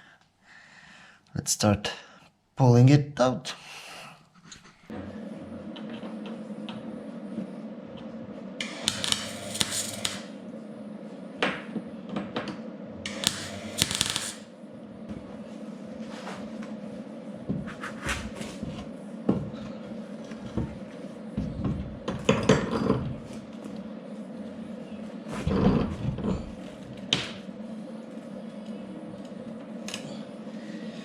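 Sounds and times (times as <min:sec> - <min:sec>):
steady hum: 0:04.9 - 0:31.0.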